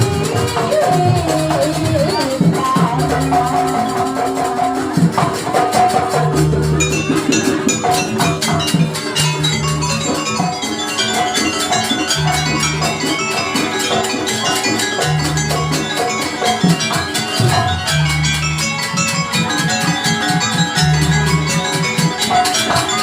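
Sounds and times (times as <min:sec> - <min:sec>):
drums and metal percussion: 0:00.0 - 0:23.0.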